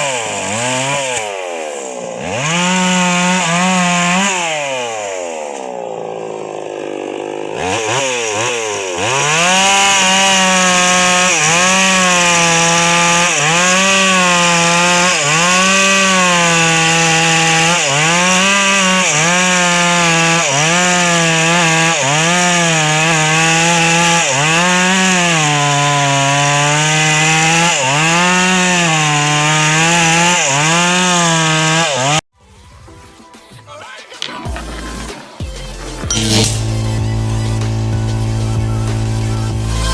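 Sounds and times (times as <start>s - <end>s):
chainsaw cutting wood: 0.0s - 32.3s, 34.1s - 39.9s.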